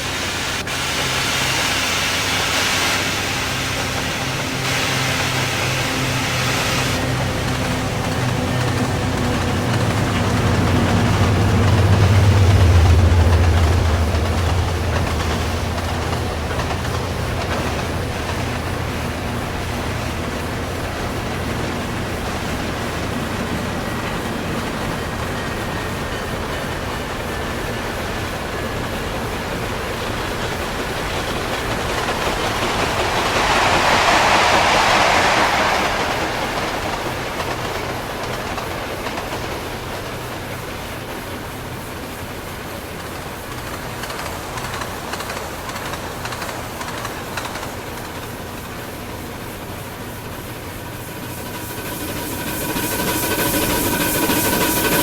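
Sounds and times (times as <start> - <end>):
steam hiss: 0.0 - 55.0
steam train running: 0.0 - 55.0.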